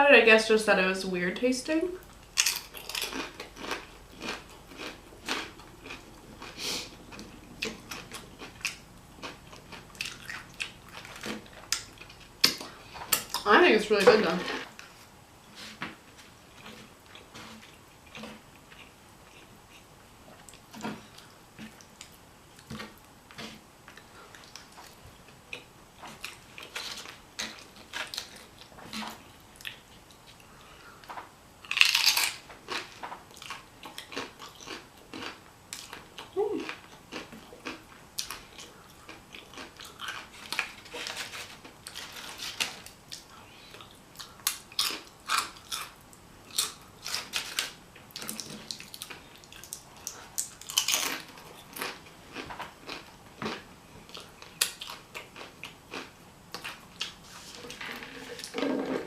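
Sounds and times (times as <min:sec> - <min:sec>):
chewing food: 0:02.0 - 0:13.5, 0:16.5 - 0:58.6.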